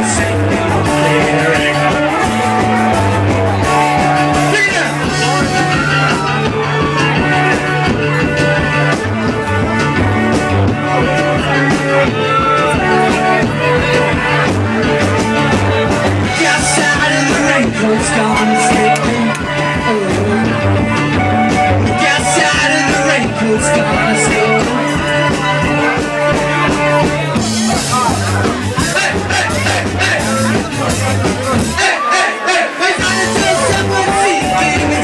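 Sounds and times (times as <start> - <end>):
person singing: 0.0 - 10.0, 15.7 - 35.0
live rock band playing: 0.0 - 35.0.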